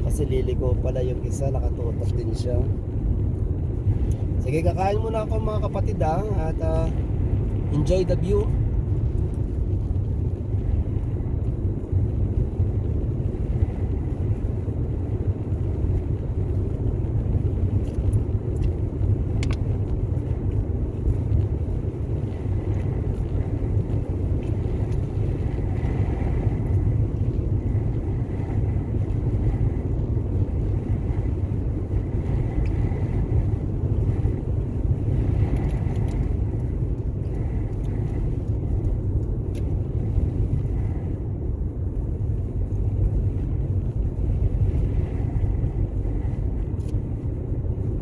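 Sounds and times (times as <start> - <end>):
car cabin road and wind drone: 0.0 - 48.0.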